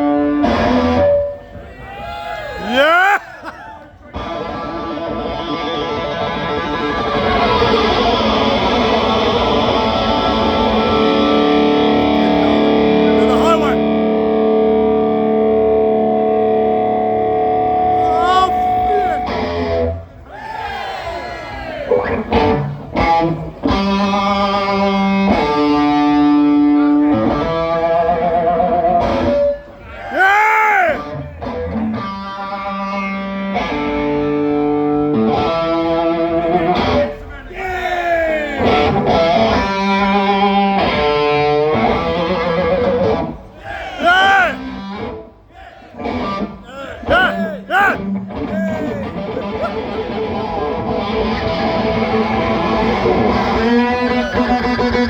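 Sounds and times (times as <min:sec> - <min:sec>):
distorted electric guitar: 0:00.0 - 0:01.3, 0:04.1 - 0:20.1, 0:22.0 - 0:29.7, 0:31.0 - 0:37.3, 0:38.6 - 0:43.4, 0:44.3 - 0:45.3, 0:46.0 - 0:55.0.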